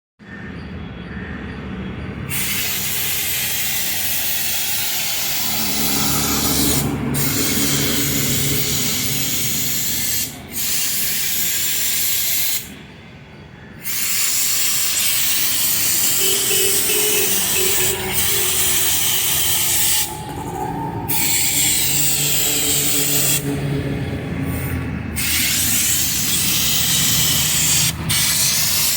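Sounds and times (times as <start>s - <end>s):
pressure washer spraying: 2.3s - 12.8s, 13.8s - 20.5s, 21.1s - 23.6s, 24.6s - 28.9s.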